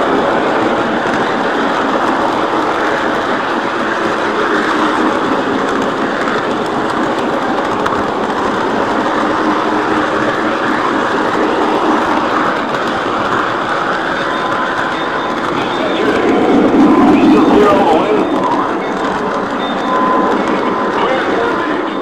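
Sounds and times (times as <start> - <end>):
model train wheels rumbling on rail: 0.0 - 22.0.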